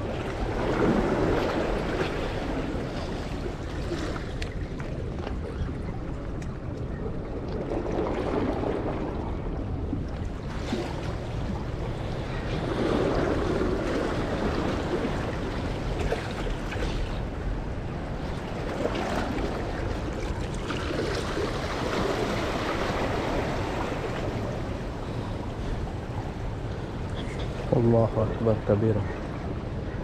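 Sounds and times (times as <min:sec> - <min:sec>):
waves lapping against rocks: 0:00.0 - 0:30.0.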